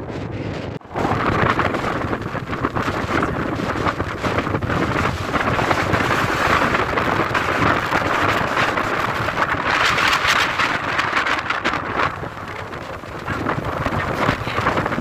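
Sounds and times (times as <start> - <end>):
wind blowing on microphone: 0.0 - 15.0
waves breaking: 0.8 - 15.0.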